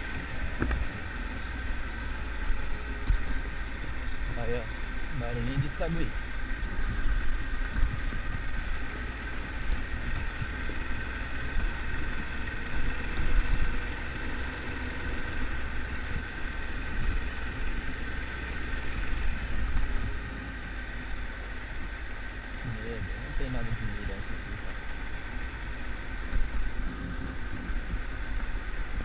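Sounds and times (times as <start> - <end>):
motorcycle engine running at low revs: 0.0 - 29.0.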